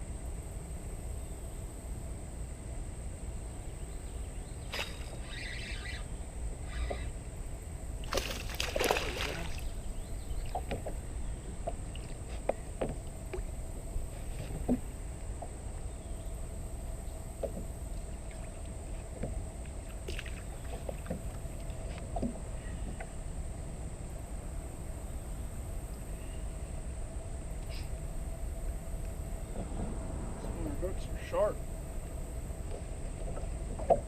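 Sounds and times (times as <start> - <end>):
water sloshing around boat: 3.4 - 25.0, 26.1 - 34.0.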